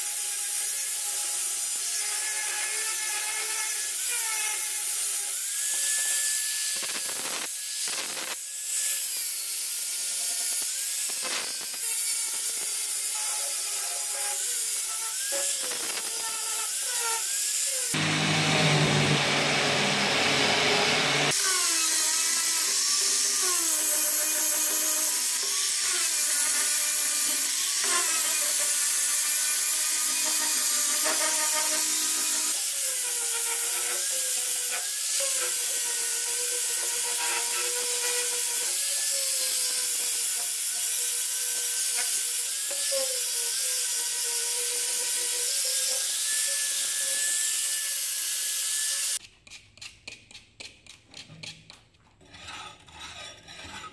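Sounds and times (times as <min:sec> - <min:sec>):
angle grinder grinding steel: 0:00.0 - 0:53.9.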